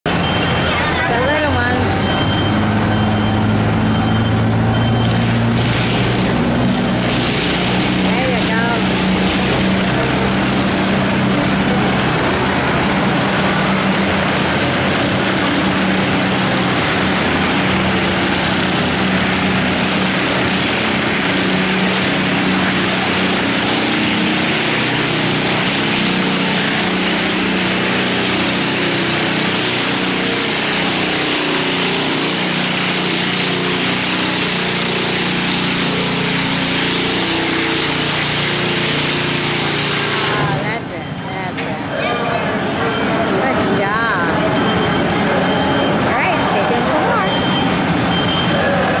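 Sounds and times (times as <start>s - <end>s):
garden tractor engine under load: 0.0s - 42.0s, 42.6s - 49.0s.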